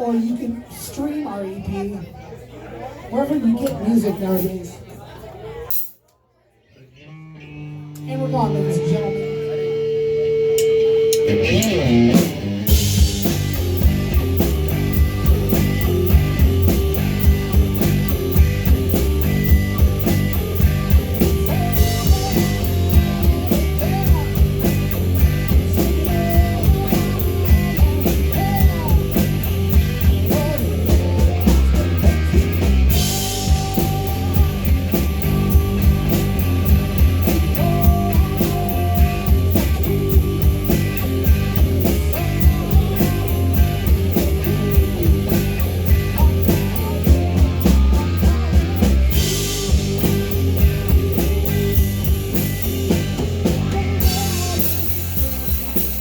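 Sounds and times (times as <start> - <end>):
bass guitar: 7.0 - 56.0
electric guitar: 7.0 - 56.0
drum kit beat: 8.0 - 56.0.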